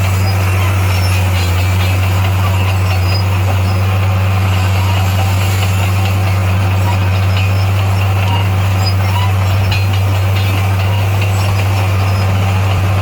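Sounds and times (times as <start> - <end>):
bulldozer diesel engine droning: 0.0 - 13.0.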